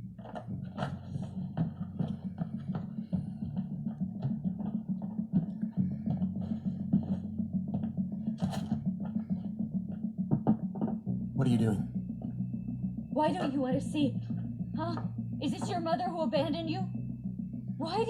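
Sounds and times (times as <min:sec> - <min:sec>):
steady low tone: 0:00.0 - 0:18.0.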